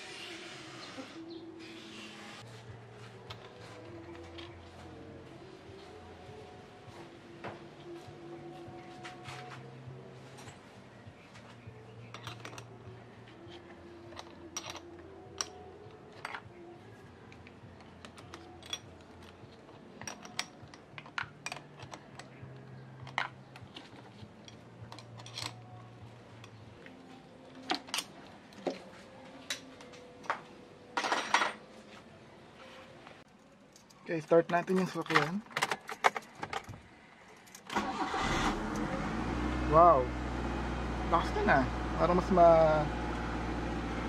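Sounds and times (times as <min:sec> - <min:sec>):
soft background music: 0:00.0 - 0:44.0.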